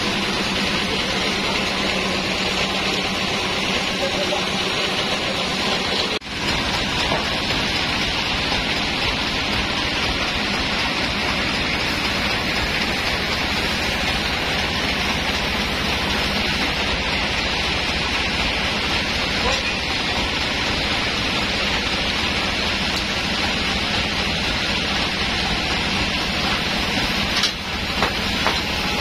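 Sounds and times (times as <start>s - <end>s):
band sawmill running: 0.0s - 29.0s.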